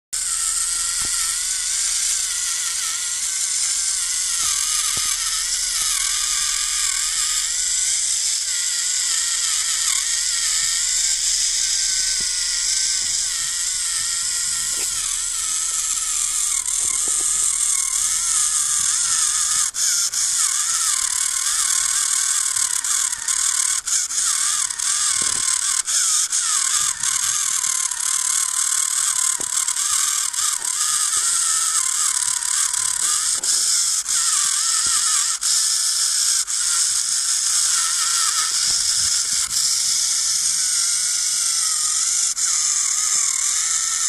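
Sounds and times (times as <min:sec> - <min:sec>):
small electric motor whining: 0:00.1 - 0:44.0.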